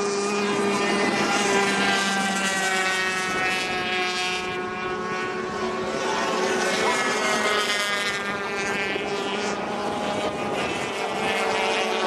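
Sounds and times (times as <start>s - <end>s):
outboard engines high-pitched whine: 0.0s - 12.0s.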